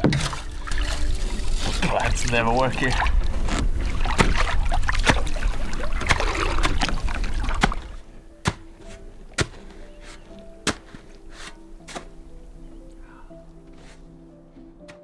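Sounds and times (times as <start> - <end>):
shovel splashing through water: 0.0 - 12.1
soft background music: 0.0 - 15.0.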